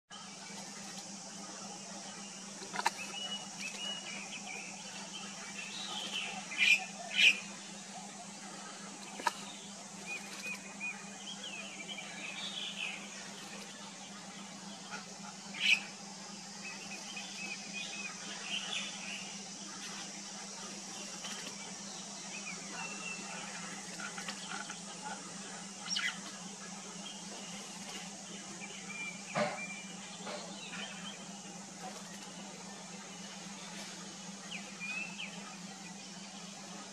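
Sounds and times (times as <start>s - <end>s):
low hum and hiss: 0.1s - 36.9s
birds chirping and calling: 0.2s - 36.9s.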